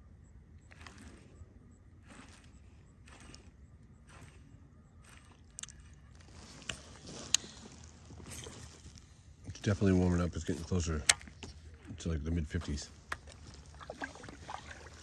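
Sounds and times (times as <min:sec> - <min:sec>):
fishing reel rustling: 0:00.6 - 0:15.0.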